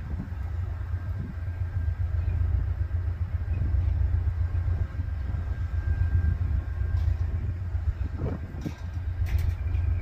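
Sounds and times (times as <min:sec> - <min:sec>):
diesel locomotive rumble: 0:00.0 - 0:10.0.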